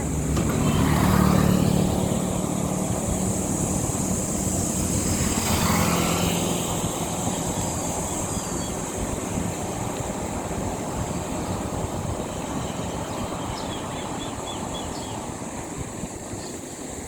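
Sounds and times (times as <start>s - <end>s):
low engine hum: 0.0s - 17.0s
road and wind noise: 0.0s - 17.0s.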